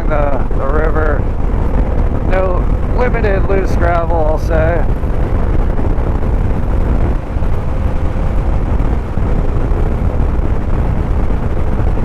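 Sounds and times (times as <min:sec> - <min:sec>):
motorcycle engine drone: 0:00.0 - 0:12.0
wind buffeting microphone: 0:00.0 - 0:12.0.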